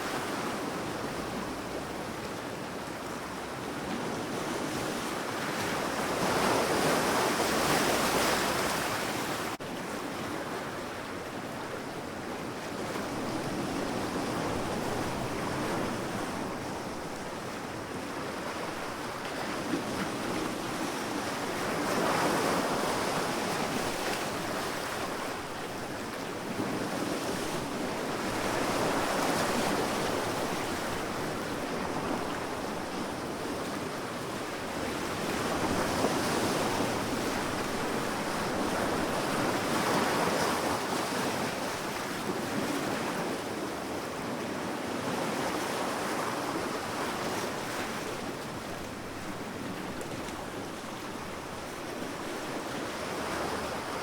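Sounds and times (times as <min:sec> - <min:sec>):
sea waves washing on beach: 0:00.0 - 0:54.0.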